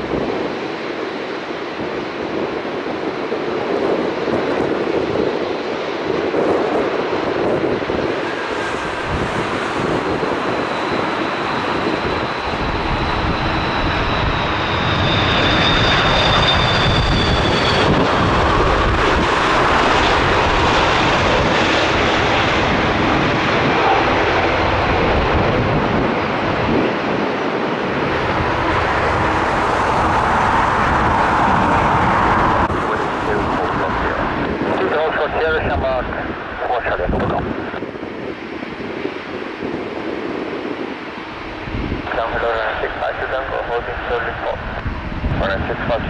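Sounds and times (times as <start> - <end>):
high fan whine: 0.0 - 42.6
jet engines rushing: 0.0 - 46.0.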